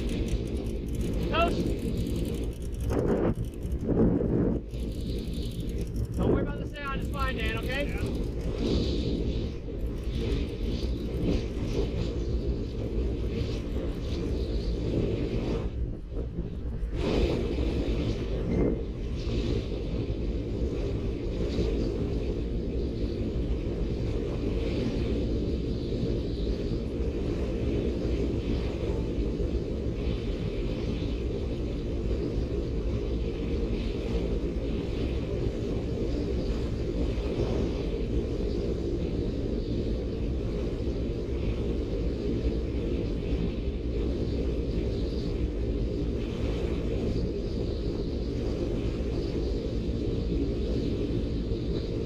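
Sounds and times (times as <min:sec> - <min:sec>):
wind rushing over microphone: 0:00.0 - 0:52.0.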